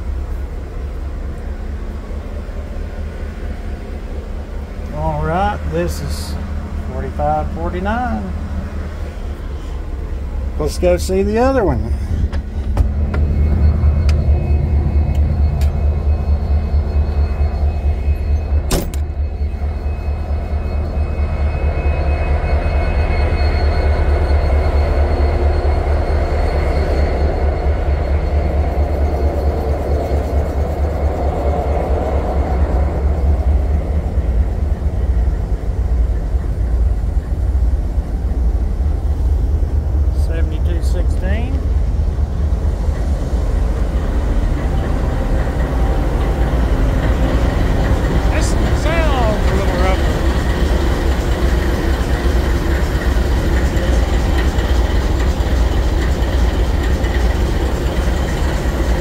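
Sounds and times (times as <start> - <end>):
locomotive engines rumbling: 0.0 - 59.0.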